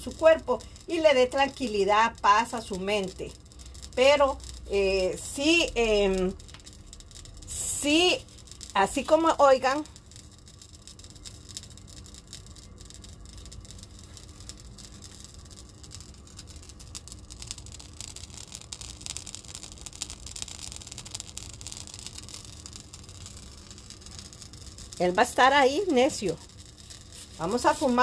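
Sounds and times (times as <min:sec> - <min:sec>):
candle wicks crackling: 0:00.0 - 0:28.0.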